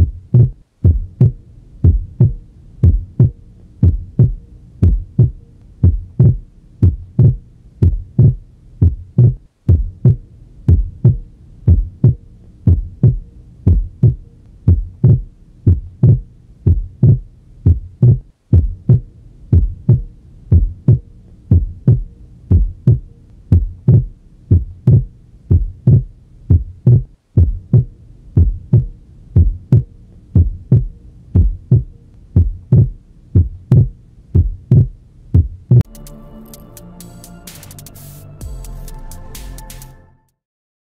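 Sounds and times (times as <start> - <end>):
heartbeat through stethoscope: 0.0 - 35.9.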